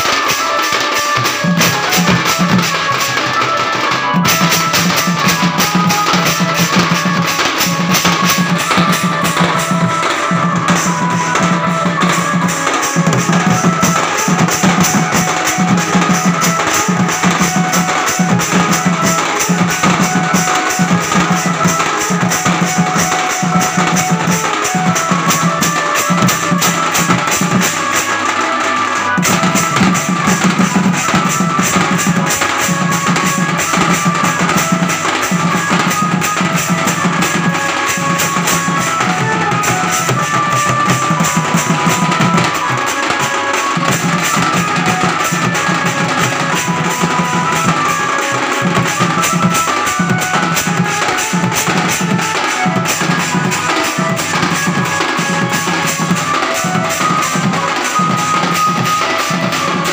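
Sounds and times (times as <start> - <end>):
held melody line: 0.0 - 59.9
large hand drum: 0.0 - 59.9
stick-beaten drum: 0.0 - 59.9.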